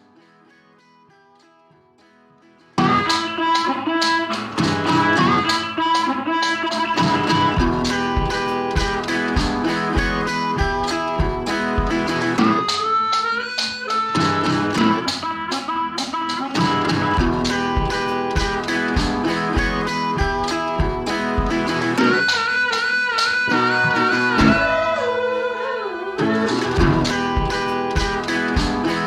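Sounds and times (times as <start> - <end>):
guitar music with deep beat: 2.8 - 29.0.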